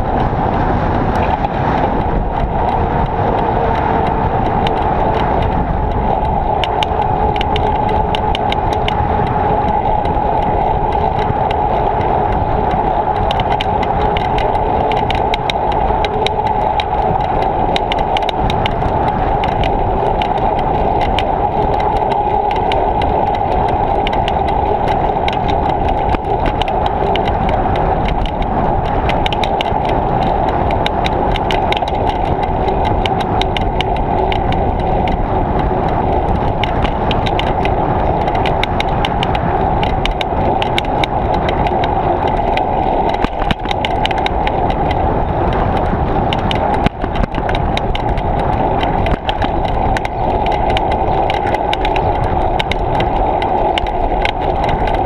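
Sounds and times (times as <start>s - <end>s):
bicycle clicks and rattles: 0.0s - 55.0s
wind noise: 0.0s - 55.0s.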